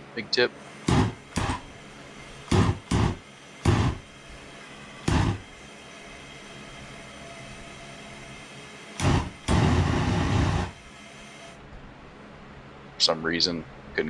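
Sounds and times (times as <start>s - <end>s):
steady low gas hiss: 0.0s - 14.0s.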